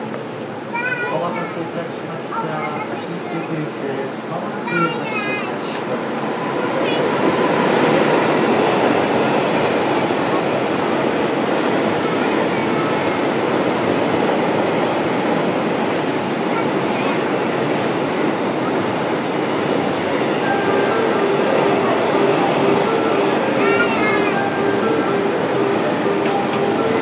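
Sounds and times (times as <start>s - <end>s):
train running on rails: 0.0s - 27.0s.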